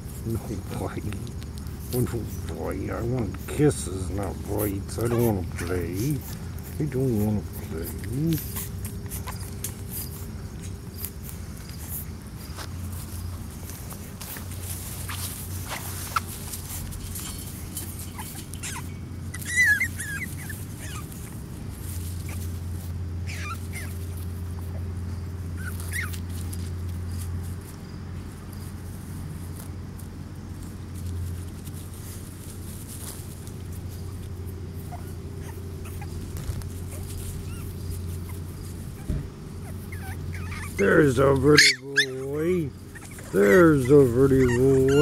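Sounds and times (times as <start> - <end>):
puppies whining: 0.0 - 27.4, 32.8 - 45.0
steady low hum: 0.0 - 45.0.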